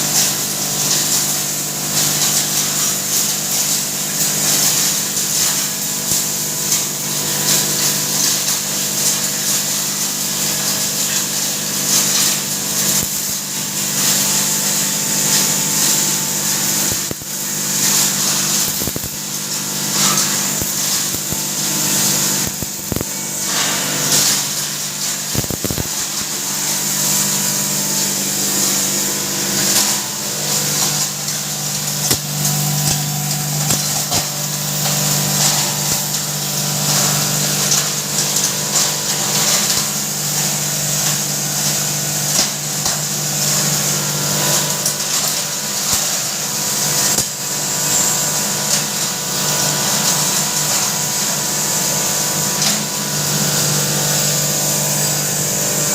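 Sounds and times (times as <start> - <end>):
spice grinder running: 0.0 - 55.9.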